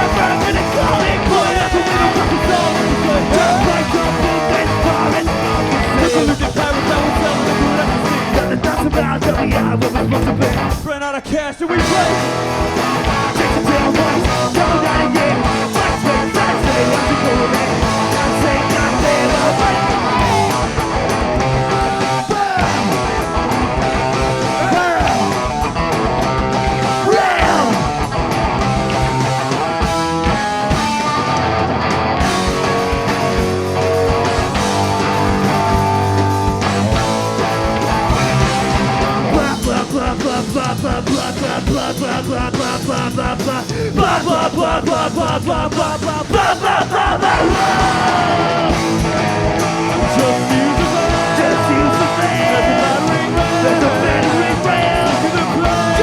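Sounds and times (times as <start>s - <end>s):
distorted electric guitars: 0.0s - 56.0s
drums: 0.0s - 56.0s
punk rock band playing live: 0.0s - 56.0s.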